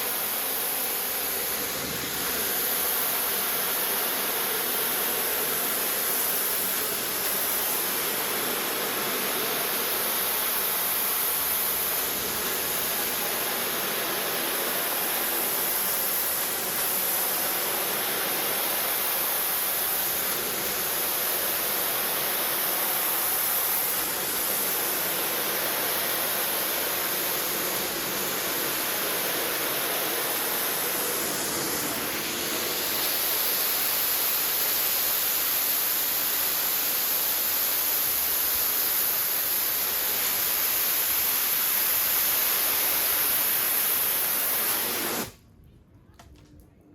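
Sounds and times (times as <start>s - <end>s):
pressure washer spraying water: 0.0s - 45.4s.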